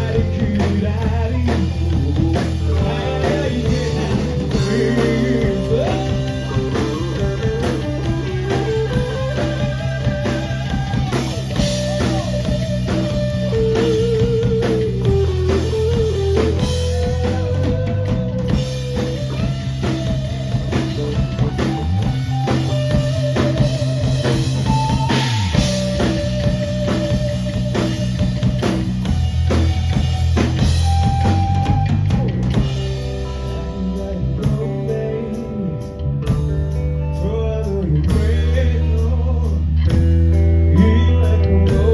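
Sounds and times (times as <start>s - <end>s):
drum kit beat: 0.0s - 36.8s
bass notes: 0.0s - 41.9s
lead guitar melody: 0.0s - 41.9s.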